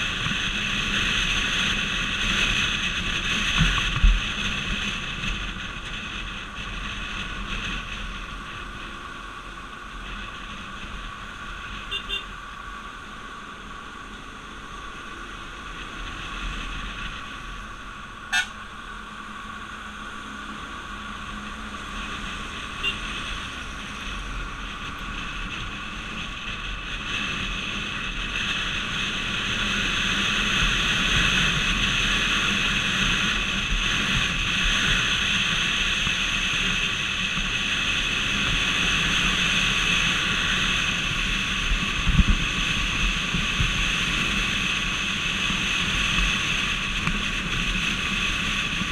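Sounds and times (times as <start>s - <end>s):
vehicle road and wind noise: 0.0s - 48.9s.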